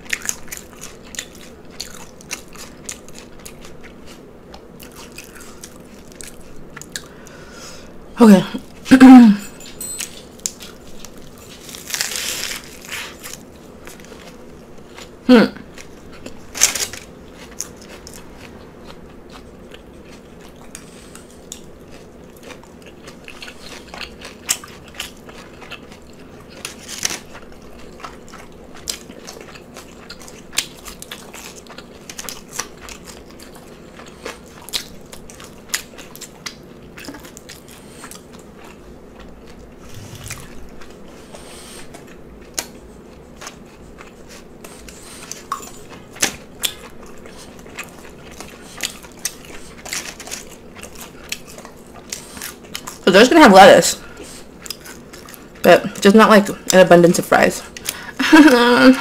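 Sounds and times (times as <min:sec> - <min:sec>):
chewing with mouth clicks: 0:00.0 - 0:07.4, 0:09.6 - 0:53.0, 0:54.0 - 0:56.8, 0:57.6 - 0:58.6
faint steady hum: 0:00.0 - 0:59.0.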